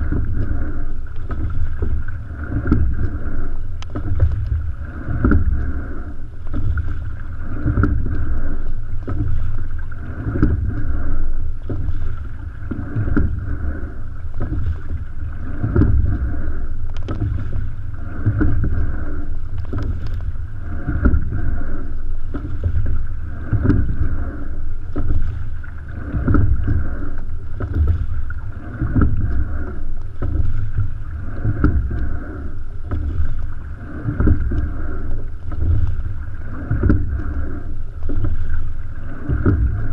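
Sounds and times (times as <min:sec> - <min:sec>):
light knocks of oar strokes: 0:00.0 - 0:39.9
water rushing along a hull: 0:00.0 - 0:39.9.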